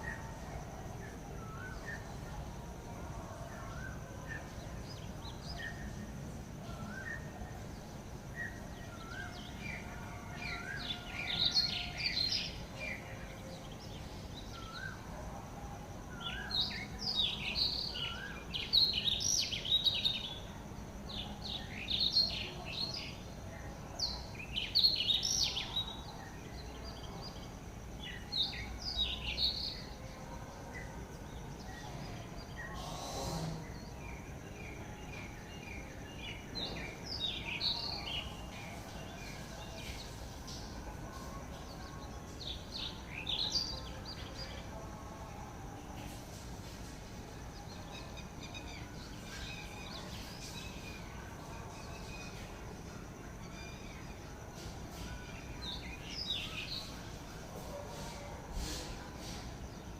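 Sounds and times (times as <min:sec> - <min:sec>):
chattering birdsong: 0:00.0 - 0:59.9.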